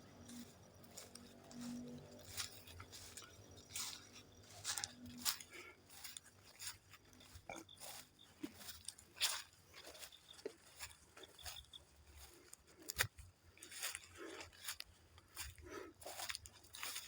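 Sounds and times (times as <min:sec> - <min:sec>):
soil crunching and scraping: 0:00.0 - 0:17.0.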